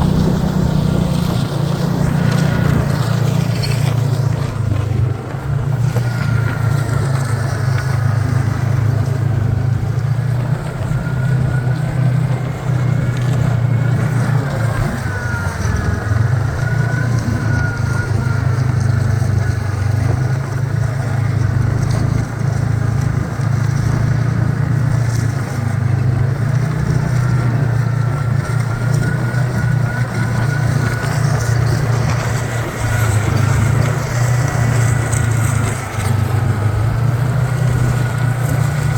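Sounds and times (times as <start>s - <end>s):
snowmobile engine droning: 0.0s - 38.9s.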